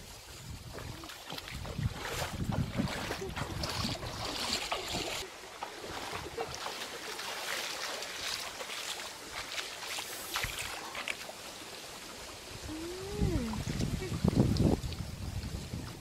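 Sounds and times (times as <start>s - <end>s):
small water splashes: 0.2s - 16.0s
stream babbling over rocks: 2.3s - 16.0s.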